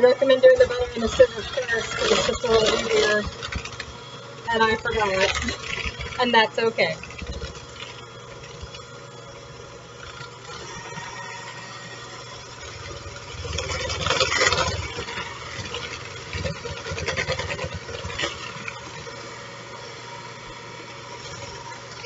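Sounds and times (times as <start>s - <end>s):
beaters scraping bowl: 0.0s - 19.2s
electric hand mixer running: 0.0s - 22.0s.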